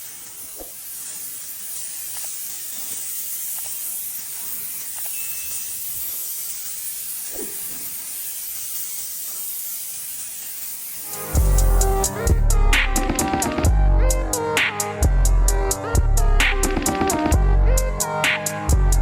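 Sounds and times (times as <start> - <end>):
paint sprayer hissing: 0.0 - 19.0.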